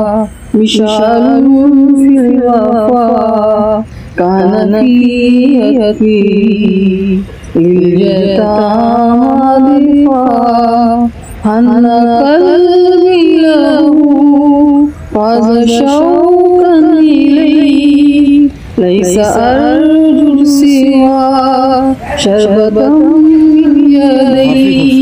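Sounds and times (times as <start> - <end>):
person singing devotional song: 0.0 - 25.0.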